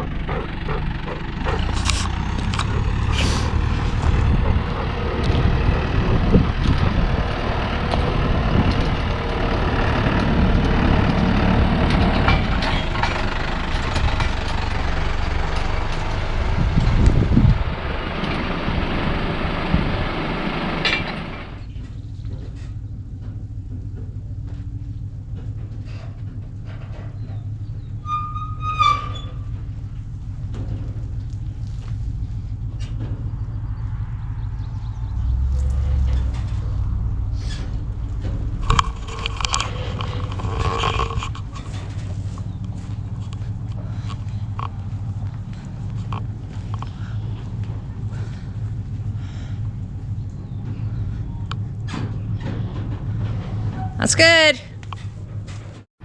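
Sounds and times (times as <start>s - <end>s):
rattling and wind noise: 0.0s - 56.0s
vehicle engine running: 0.0s - 56.0s.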